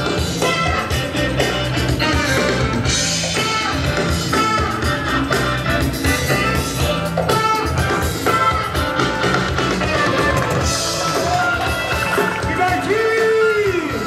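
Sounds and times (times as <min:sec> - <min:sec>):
break music with guitar and drums: 0:00.0 - 0:14.0.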